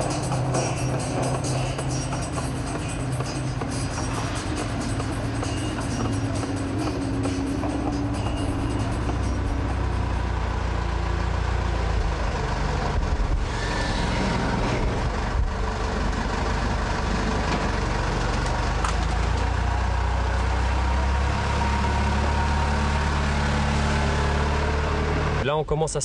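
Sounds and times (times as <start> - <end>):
heavy vehicle engine rumbling: 0.0 - 25.9.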